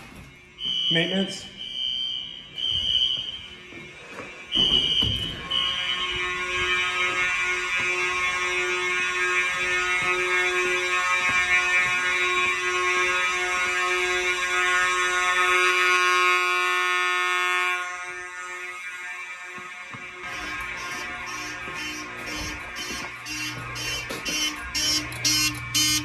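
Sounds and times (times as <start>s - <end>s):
fire alarm horns: 0.0s - 26.0s.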